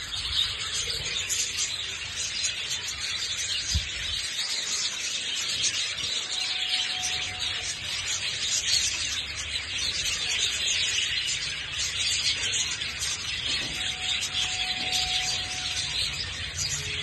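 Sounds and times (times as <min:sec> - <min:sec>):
budgerigars chattering and chirping: 0:00.0 - 0:17.0.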